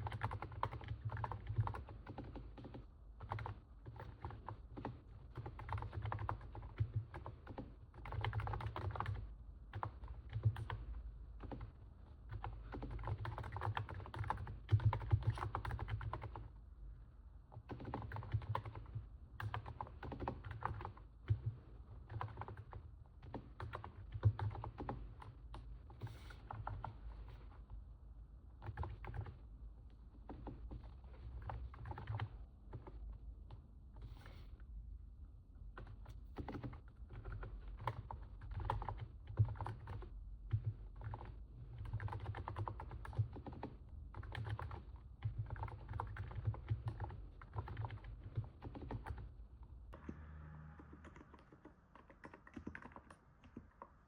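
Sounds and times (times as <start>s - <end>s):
soft keyboard typing: 0.0s - 16.6s, 17.5s - 27.6s, 28.5s - 34.5s, 35.7s - 54.0s.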